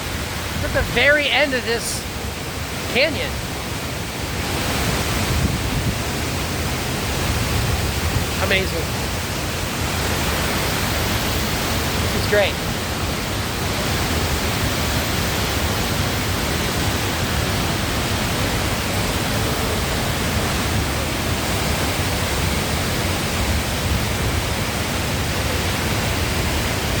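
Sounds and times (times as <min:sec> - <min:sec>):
waterfall crashing into pool: 0:00.0 - 0:27.0.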